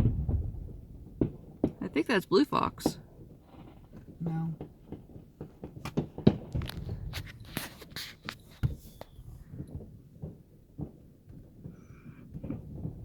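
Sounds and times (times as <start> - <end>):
distant fireworks popping: 0.0 - 13.0.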